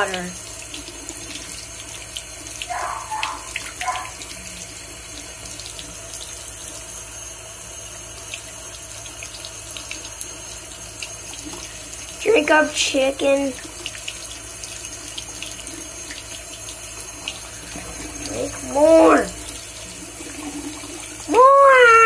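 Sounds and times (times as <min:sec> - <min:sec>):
faucet water splashing: 0:00.0 - 0:22.0.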